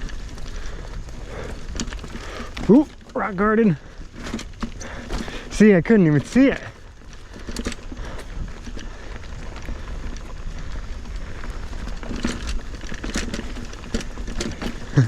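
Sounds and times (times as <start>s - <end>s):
bike clattering over rocks: 0.0s - 15.0s
bike tyres rumbling on trail: 0.0s - 15.0s.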